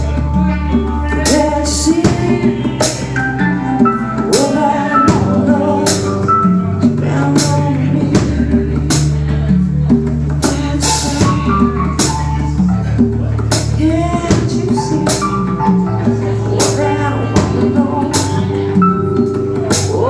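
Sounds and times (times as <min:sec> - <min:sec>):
drum and cymbal hits: 0:00.0 - 0:20.0
guitar melody: 0:00.0 - 0:20.0
rock band playing: 0:00.0 - 0:20.0.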